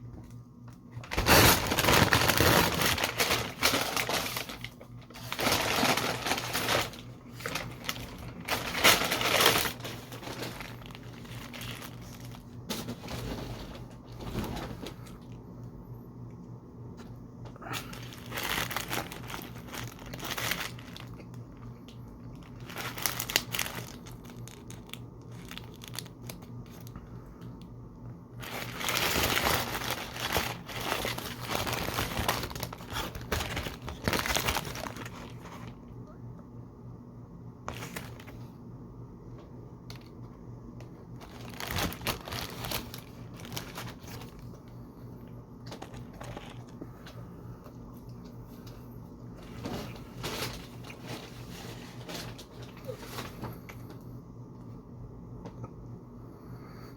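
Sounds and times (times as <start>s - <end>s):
steady low hum: 0.0s - 56.9s
paper packaging crinkling: 0.7s - 15.4s, 17.6s - 27.6s, 28.4s - 36.0s, 37.6s - 38.5s, 39.9s - 44.8s, 45.6s - 53.7s.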